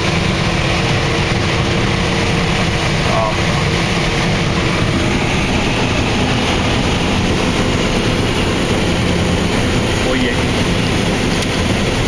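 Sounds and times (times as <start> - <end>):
combine harvester engine and threshing: 0.0 - 12.0.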